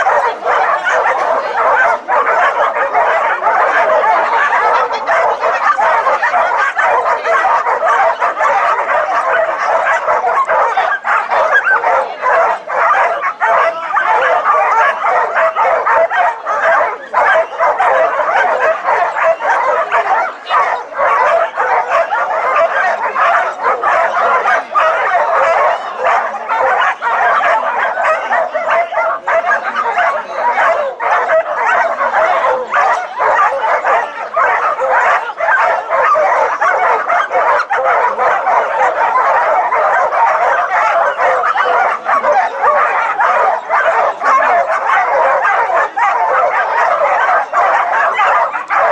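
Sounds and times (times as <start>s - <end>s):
dogs barking yelping and whining: 0.0s - 48.9s.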